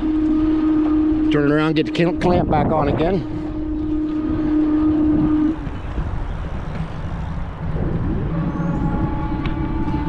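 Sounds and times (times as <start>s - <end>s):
electric motor whine: 0.0s - 10.0s
wind and tyre rumble: 0.0s - 10.0s.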